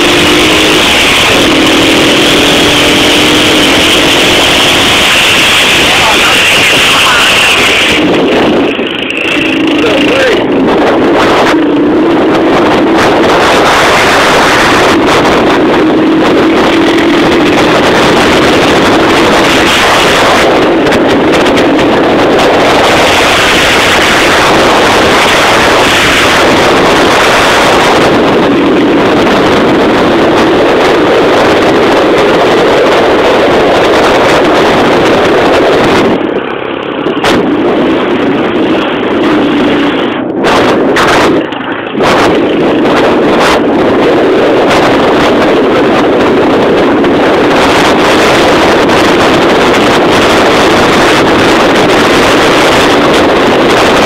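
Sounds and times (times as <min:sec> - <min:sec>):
motorcycle engine running: 0:00.0 - 0:54.0
wind buffeting on microphone: 0:00.0 - 0:54.0.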